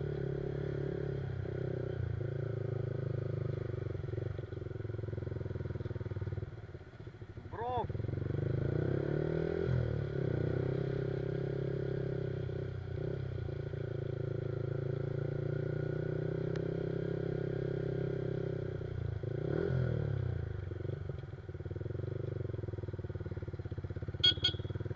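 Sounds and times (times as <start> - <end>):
motorcycle engine cruising: 0.0 - 24.9.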